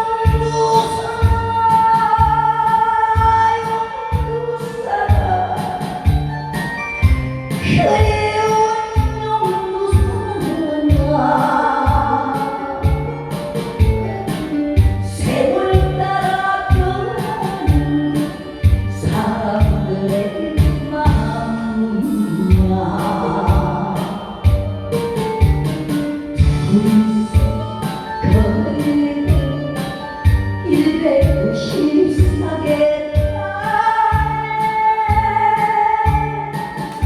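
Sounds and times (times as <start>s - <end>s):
person singing into microphone: 0.0s - 6.8s, 7.5s - 25.1s, 26.1s - 37.0s
backing track with drum beat: 0.0s - 37.0s.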